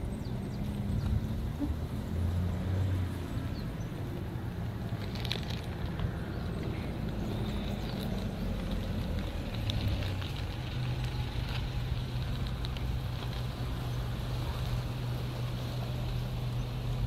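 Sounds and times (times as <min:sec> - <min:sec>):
low engine hum: 0:00.0 - 0:17.0
outdoor background noise: 0:00.0 - 0:17.0.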